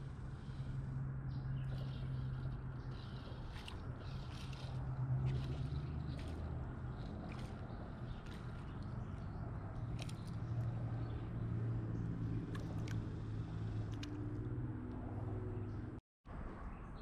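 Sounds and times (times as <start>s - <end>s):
highway traffic drone: 0.0s - 16.7s.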